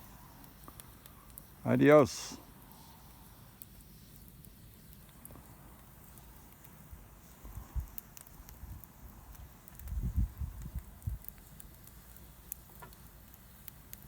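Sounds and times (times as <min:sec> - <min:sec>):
fire pops: 0:00.0 - 0:14.0
wood fire crackling: 0:00.0 - 0:14.0.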